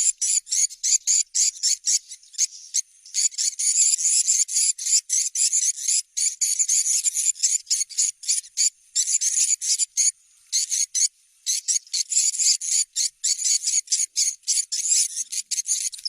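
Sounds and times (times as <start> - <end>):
rasping bird chirps: 0.0 - 16.0.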